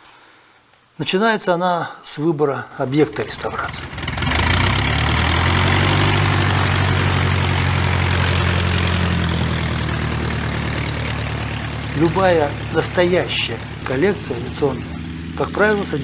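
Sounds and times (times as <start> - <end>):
radial engine idling: 3.0 - 16.0.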